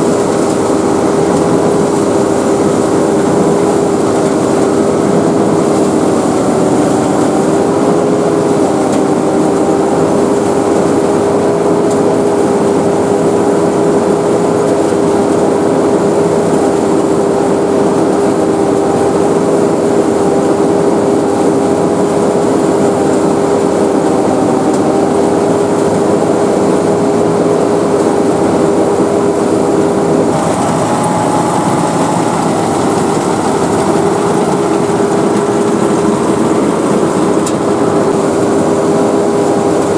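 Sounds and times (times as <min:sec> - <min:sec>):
harvester engine humming: 0:00.0 - 0:39.9
machinery whine: 0:00.0 - 0:39.9.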